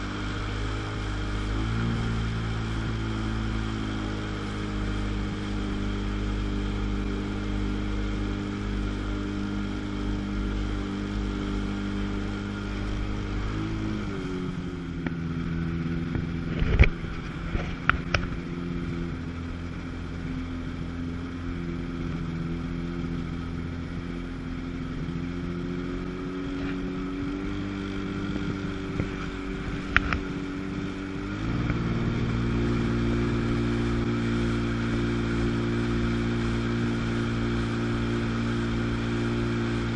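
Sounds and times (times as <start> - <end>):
two-stroke jet ski engine: 0.0 - 39.9.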